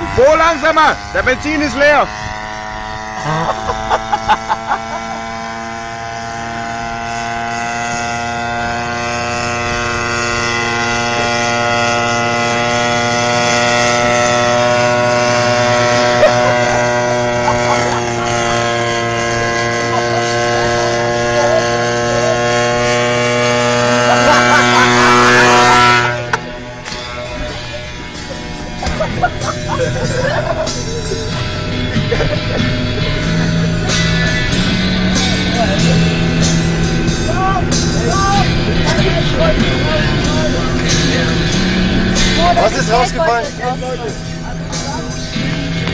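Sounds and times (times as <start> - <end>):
small petrol engine running: 0.0 - 45.9.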